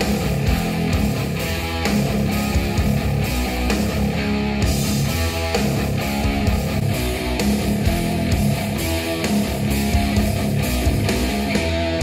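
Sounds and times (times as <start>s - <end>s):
guitar-driven rock music: 0.0s - 12.0s.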